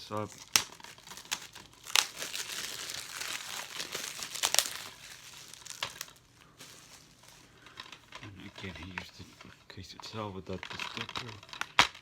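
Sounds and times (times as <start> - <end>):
plastic shrink-wrap crinkling: 0.0 - 12.0.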